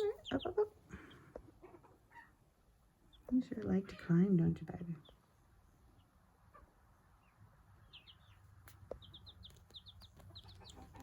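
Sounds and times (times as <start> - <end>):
chick peeping: 0.0 - 11.0.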